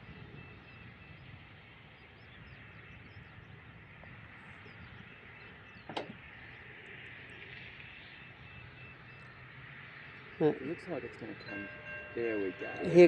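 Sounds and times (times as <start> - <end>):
distant road traffic rumble: 0.0 - 13.0
small birds chirping: 0.0 - 13.0.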